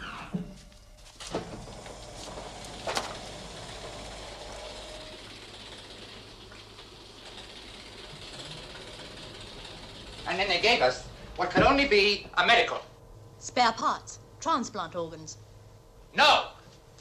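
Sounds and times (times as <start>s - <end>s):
low background hum with hiss: 0.0s - 17.0s.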